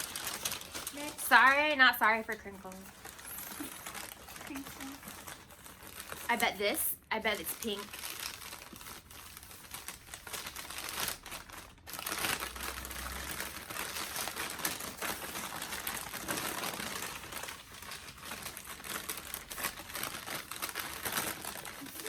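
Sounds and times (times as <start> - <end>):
packing material crinkling: 0.0 - 22.0.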